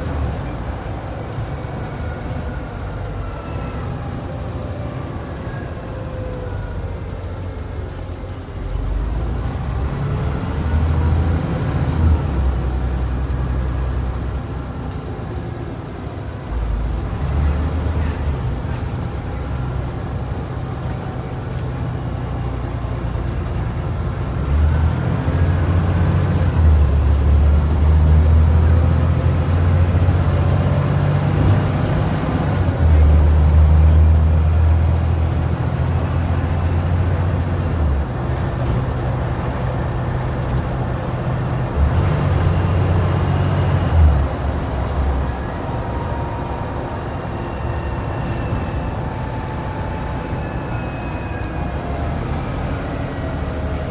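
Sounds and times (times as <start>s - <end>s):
bus diesel engine accelerating: 0.0s - 53.9s.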